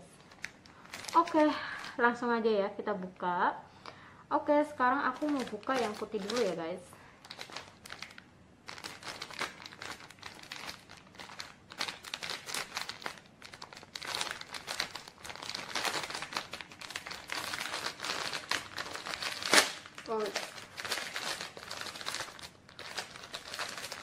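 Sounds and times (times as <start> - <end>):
plastic bag crinkling: 0.0 - 2.0, 5.0 - 24.0.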